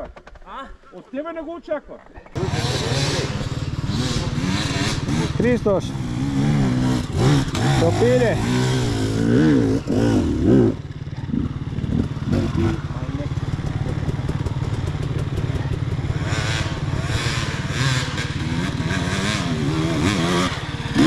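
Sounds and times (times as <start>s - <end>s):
dirt bike engine idling: 2.4s - 21.0s
dirt bikes revving: 2.4s - 21.0s.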